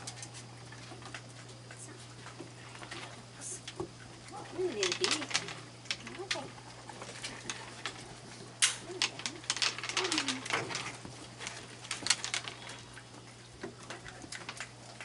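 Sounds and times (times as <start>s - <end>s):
raccoons crunching food: 0.0s - 15.0s.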